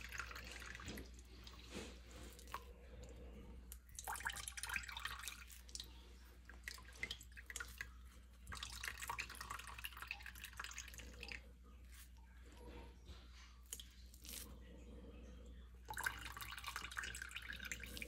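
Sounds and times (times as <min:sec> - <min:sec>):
juice dripping into a bowl: 0:00.0 - 0:12.3, 0:13.6 - 0:14.8, 0:15.5 - 0:18.0.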